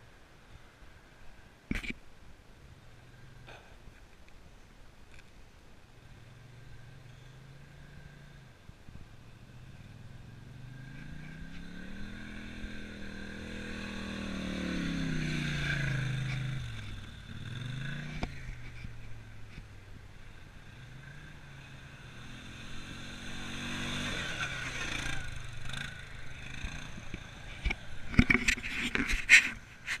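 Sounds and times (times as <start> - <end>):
quad bike engines passing: 2.6 - 3.8, 5.9 - 30.0.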